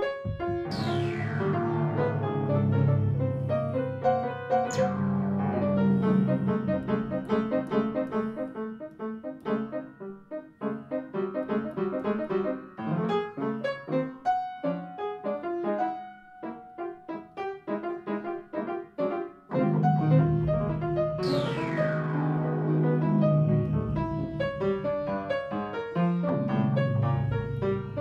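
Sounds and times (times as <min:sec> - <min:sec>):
free jazz piano: 0:00.0 - 0:28.0.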